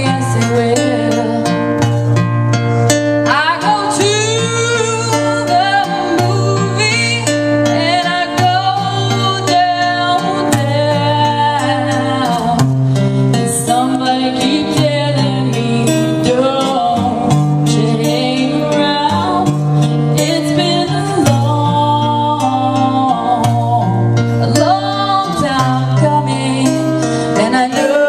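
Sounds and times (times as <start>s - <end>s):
person singing: 0.0s - 1.8s, 3.3s - 12.7s, 13.4s - 28.0s
guitar accompaniment: 0.0s - 28.0s.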